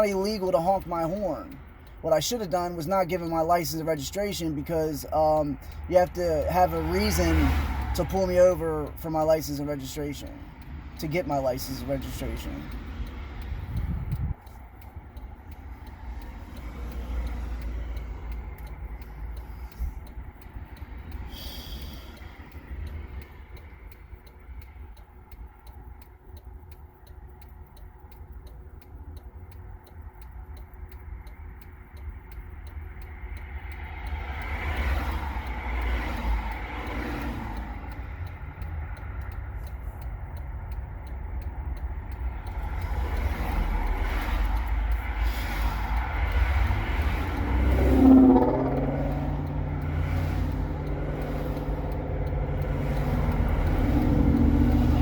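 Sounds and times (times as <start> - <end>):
car engine idling: 0.0 - 55.0
fast steady ticking: 0.0 - 55.0
vehicle passing: 0.4 - 55.0.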